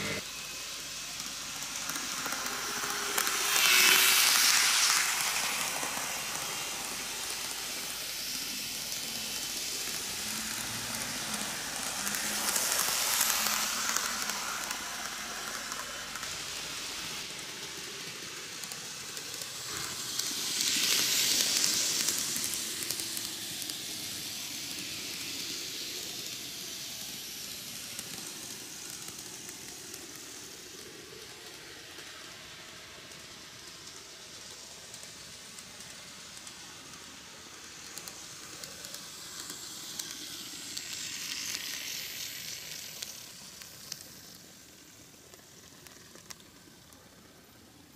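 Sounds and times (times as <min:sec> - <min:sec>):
model electric train running: 0:00.0 - 0:47.9.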